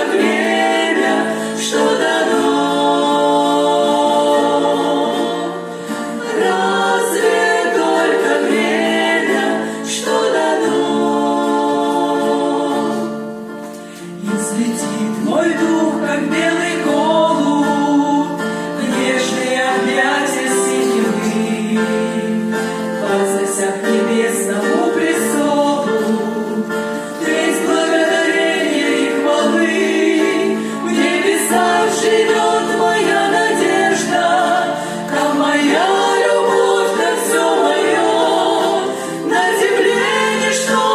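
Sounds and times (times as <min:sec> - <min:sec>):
group singing together: 0:00.0 - 0:40.9.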